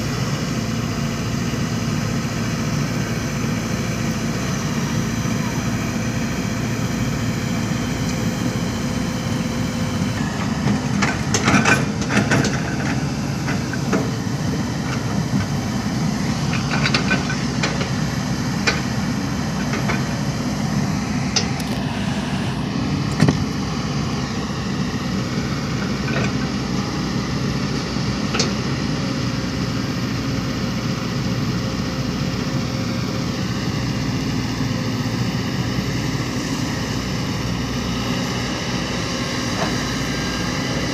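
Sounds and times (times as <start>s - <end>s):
diesel construction machinery running: 0.0s - 40.9s.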